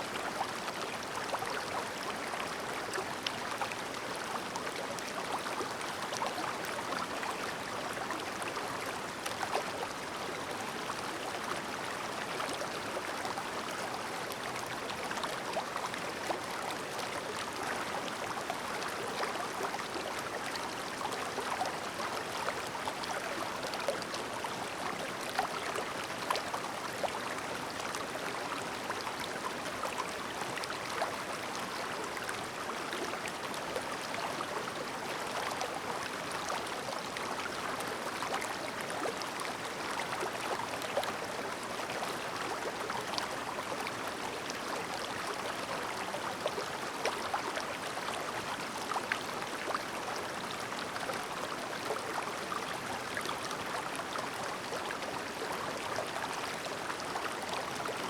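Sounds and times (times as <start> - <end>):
stream babbling: 0.1 - 58.0.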